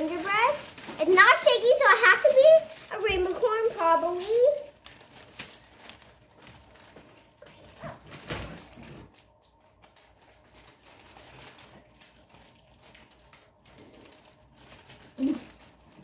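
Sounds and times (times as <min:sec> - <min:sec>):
taps and rustles of wrapped present: 0:00.0 - 0:16.0.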